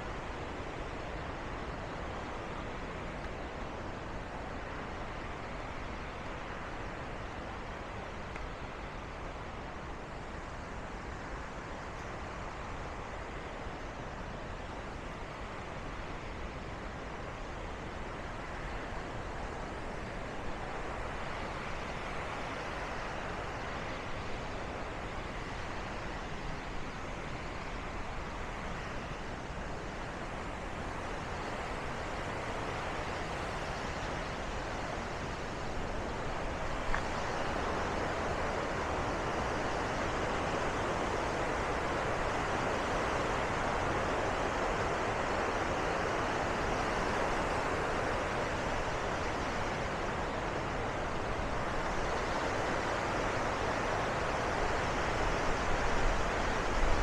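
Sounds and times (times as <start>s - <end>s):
water rushing over waterfall: 0.0s - 57.0s.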